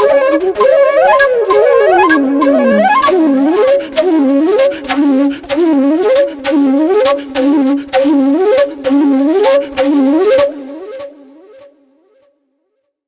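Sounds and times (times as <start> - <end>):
flute music: 0.0 - 10.6.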